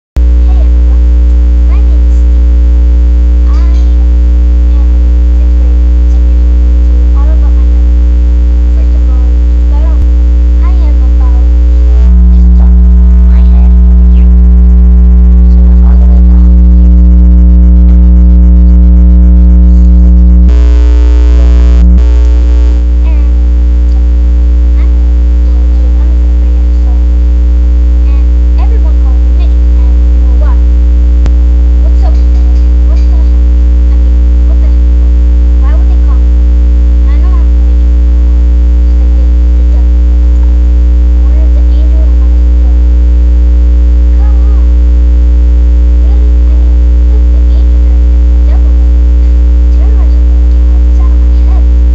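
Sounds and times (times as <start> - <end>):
electrical mains hum: 0.2 - 51.9.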